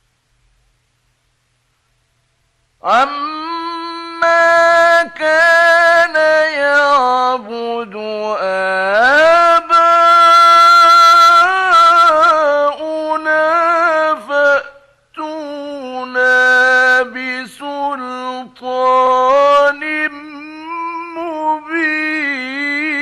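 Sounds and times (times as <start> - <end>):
man reciting melodically: 2.8 - 23.0.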